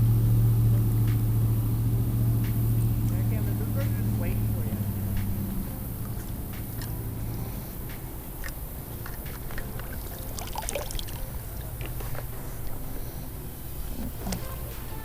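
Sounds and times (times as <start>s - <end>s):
low rumble: 0.0s - 15.0s
river water splashing around legs: 2.5s - 15.0s.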